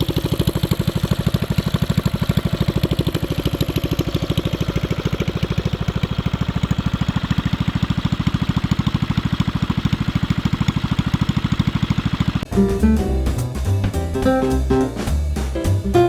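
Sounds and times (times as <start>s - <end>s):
minibike engine idling: 0.0s - 16.0s.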